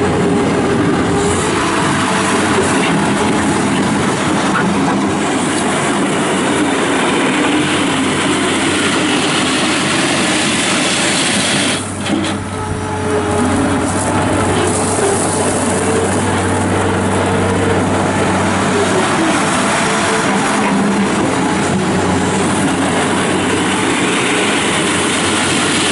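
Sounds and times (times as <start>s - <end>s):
diesel engine running hard: 0.0s - 25.9s.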